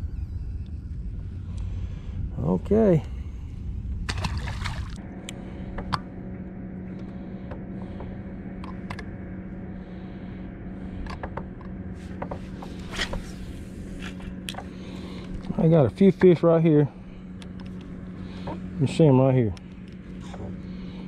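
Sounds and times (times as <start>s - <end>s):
electric trolling motor humming: 0.0s - 21.0s.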